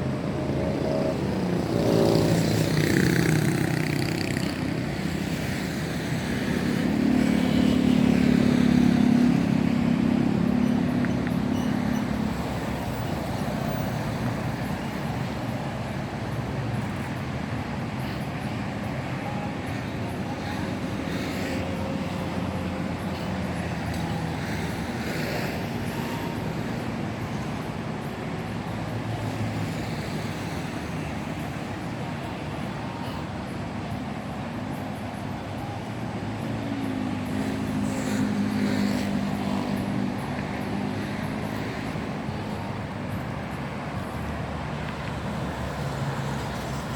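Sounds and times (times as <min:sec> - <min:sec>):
engine hum passing: 0:00.0 - 0:46.9
road traffic noise: 0:00.0 - 0:46.9.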